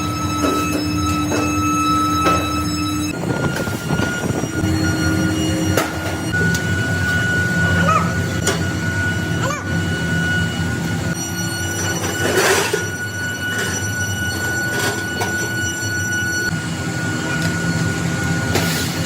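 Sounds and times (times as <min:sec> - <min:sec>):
machine tool whining: 0:00.0 - 0:19.0.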